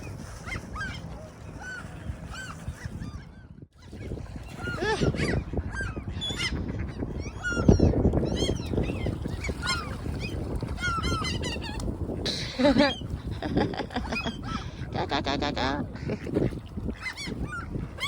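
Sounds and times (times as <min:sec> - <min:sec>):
seagulls calling: 0:00.0 - 0:18.0.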